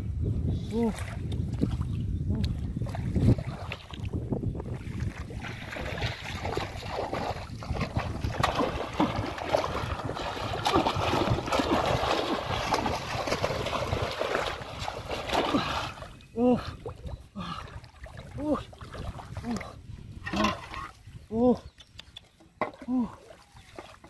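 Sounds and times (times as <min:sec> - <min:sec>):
muddy water sloshing and splashing: 0:00.5 - 0:24.0.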